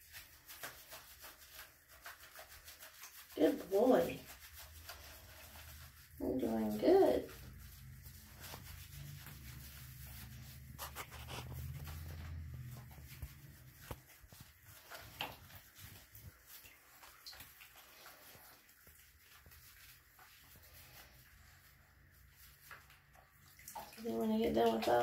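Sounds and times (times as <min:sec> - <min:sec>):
hands rubbing wet fur: 0:00.0 - 0:25.0.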